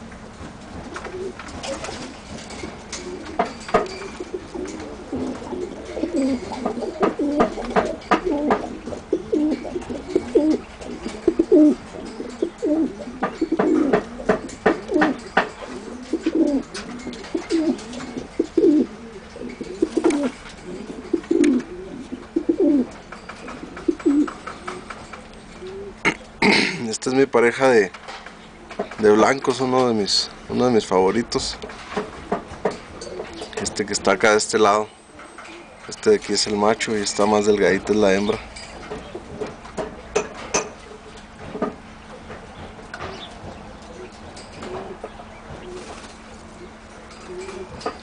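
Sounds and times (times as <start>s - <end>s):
pigeons cooing: 0.0s - 26.8s, 31.8s - 48.0s.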